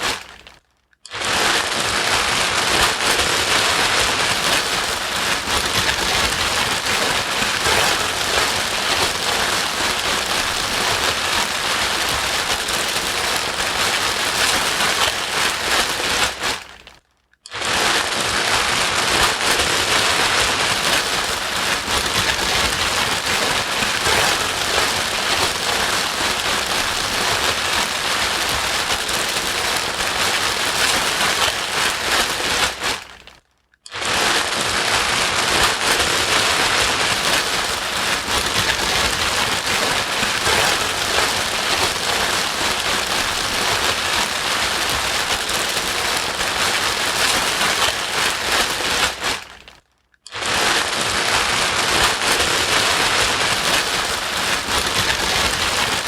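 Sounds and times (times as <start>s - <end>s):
rain-like white noise: 1.1s - 16.7s, 17.5s - 33.1s, 34.0s - 49.4s.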